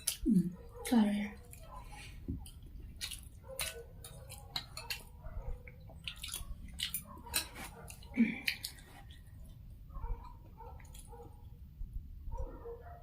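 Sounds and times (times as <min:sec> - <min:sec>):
chewing: 0:00.0 - 0:11.6.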